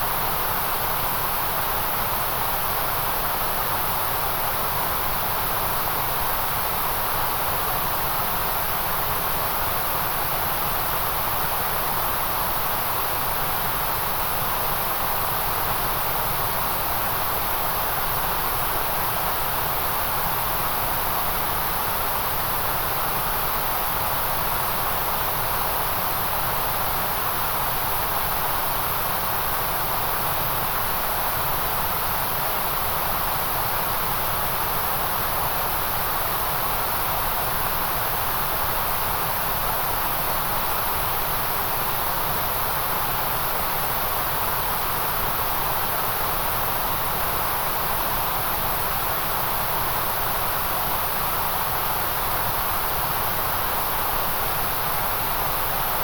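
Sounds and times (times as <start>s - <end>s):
electronic white noise hiss: 0.0s - 56.0s.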